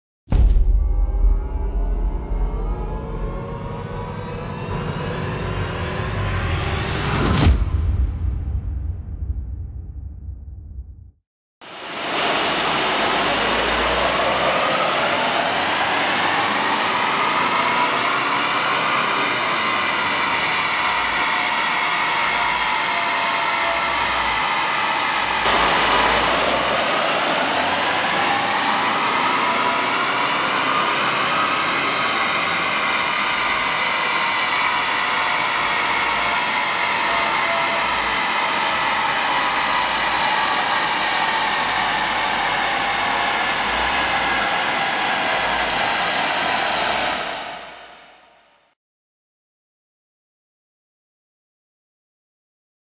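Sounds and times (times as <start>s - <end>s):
diesel engine whine under load: 1.2s - 7.5s, 11.7s - 48.5s.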